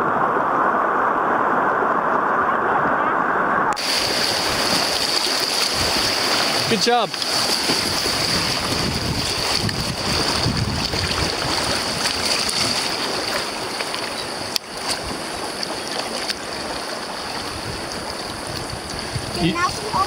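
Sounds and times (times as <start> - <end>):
river water rushing: 0.0 - 20.0
wind on microphone: 0.0 - 20.0.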